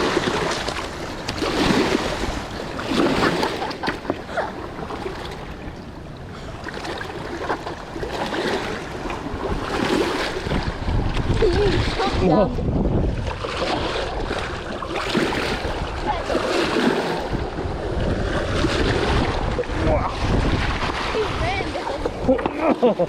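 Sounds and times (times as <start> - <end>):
water washing against shore: 0.0 - 23.0
wind buffeting microphone: 0.0 - 23.0.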